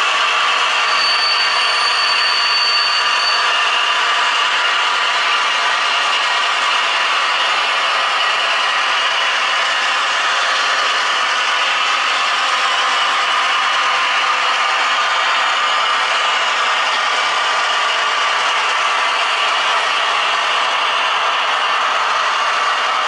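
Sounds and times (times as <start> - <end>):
model train rattling on rails: 0.0 - 23.0.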